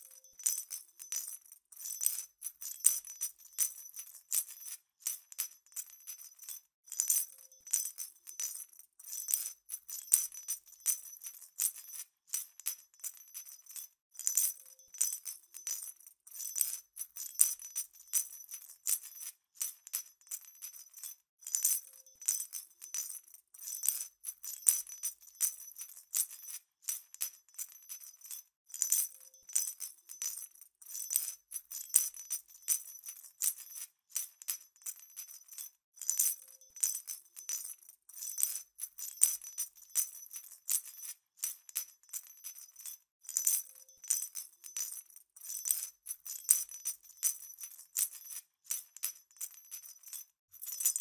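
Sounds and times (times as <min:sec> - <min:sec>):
jingle bells jangling: 0:00.0 - 0:07.7, 0:09.3 - 0:51.0.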